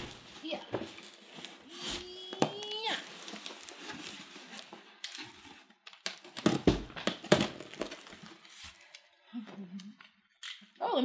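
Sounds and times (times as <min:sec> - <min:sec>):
packaging rustling and crinkling: 0:00.0 - 0:09.1.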